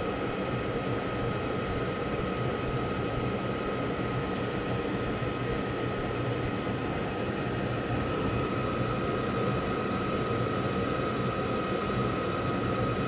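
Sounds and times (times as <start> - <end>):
furnace whirring: 1.9 - 12.4.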